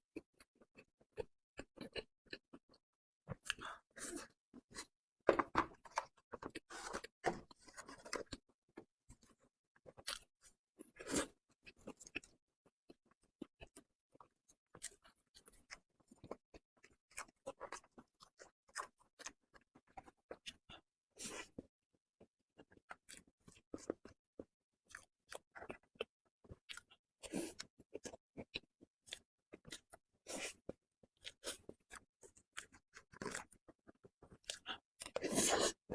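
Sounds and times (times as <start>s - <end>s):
person chewing: 0.1s - 4.9s, 5.7s - 21.7s, 22.6s - 35.9s.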